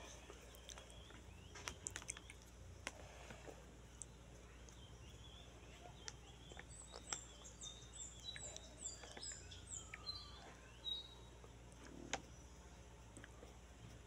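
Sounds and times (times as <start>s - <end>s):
bird chirping: 0.0s - 14.0s
faint scattered clicks: 0.0s - 14.0s.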